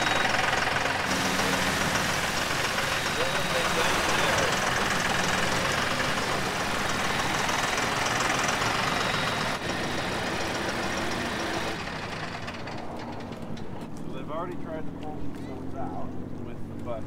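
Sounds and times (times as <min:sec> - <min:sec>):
hydraulics working: 0:00.0 - 0:14.8
tractor diesel engine under load: 0:00.0 - 0:17.0.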